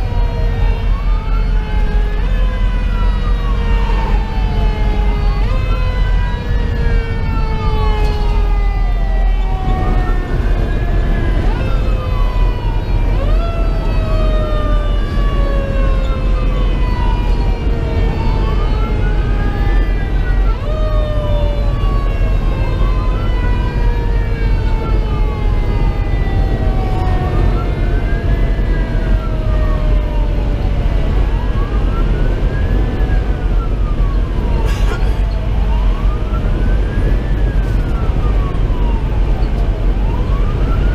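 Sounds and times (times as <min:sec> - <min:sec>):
diesel engine and road rumble: 0:00.0 - 0:40.9
electronic siren wailing: 0:00.0 - 0:40.9
mechanical siren winding down: 0:00.0 - 0:40.9.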